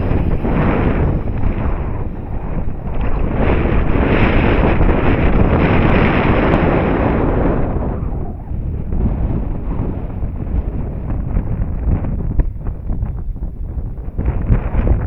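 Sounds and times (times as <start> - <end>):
model jet fan whine: 0.0 - 15.0
wind buffeting microphone: 0.0 - 15.0.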